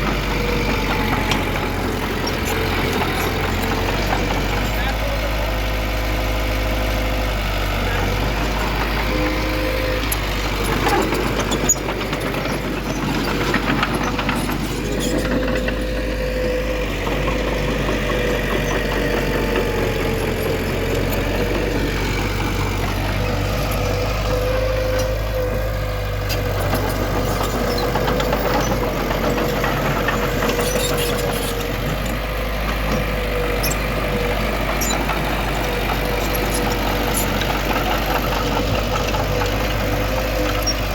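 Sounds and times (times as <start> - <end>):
diesel earthmoving machinery running: 0.0 - 40.9.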